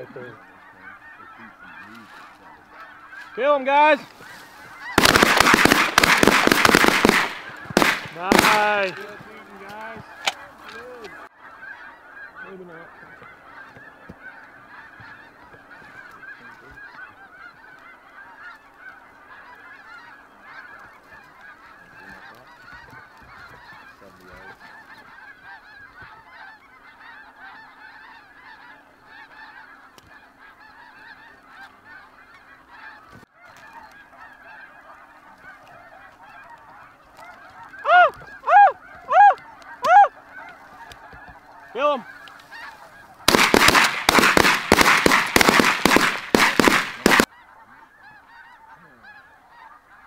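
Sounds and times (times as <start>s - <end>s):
flock of geese honking: 0.0s - 50.0s
loud close goose honks: 0.0s - 50.0s.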